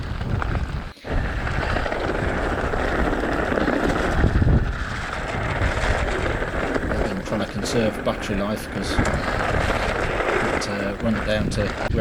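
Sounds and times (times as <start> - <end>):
wind buffeting microphone: 0.0 - 12.0
tyres rolling on wet road: 1.1 - 12.0.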